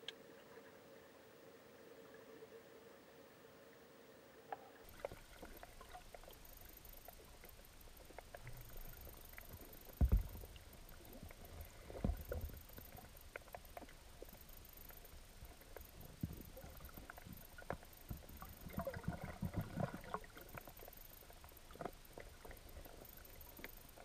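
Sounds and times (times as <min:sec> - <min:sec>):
faint clicks: 0:04.5 - 0:24.0.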